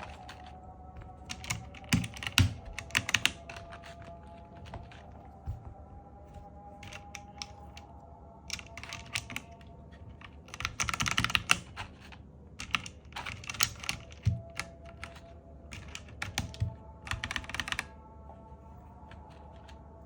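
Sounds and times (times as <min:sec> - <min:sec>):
mechanical keyboard typing: 0:00.0 - 0:05.6, 0:06.3 - 0:18.1.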